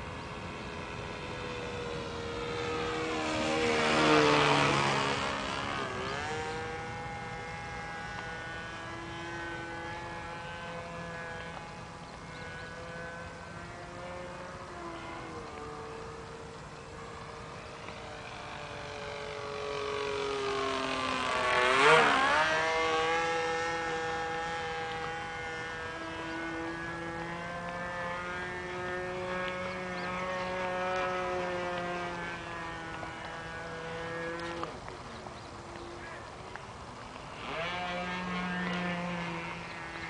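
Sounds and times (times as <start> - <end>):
model airplane engine: 0.0 - 40.0.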